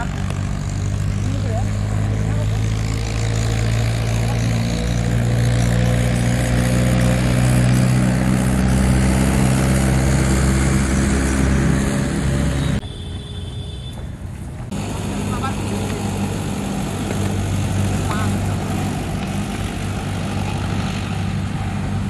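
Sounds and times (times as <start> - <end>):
engine running low hum: 0.0 - 12.8, 13.9 - 22.0.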